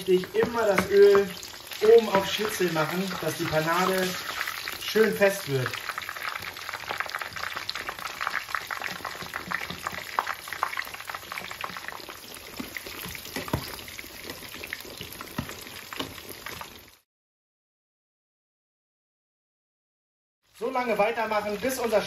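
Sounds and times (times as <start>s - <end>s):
meat sizzling in oil: 0.0s - 17.0s, 20.5s - 22.0s.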